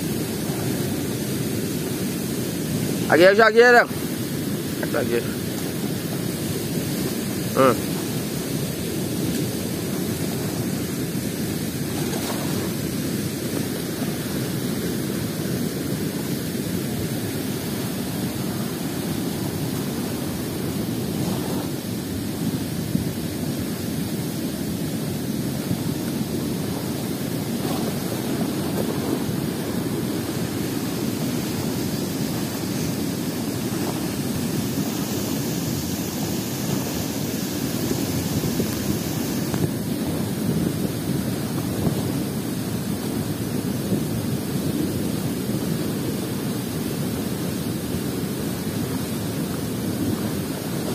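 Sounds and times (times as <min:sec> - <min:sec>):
fast-flowing river water: 0:00.0 - 0:50.9.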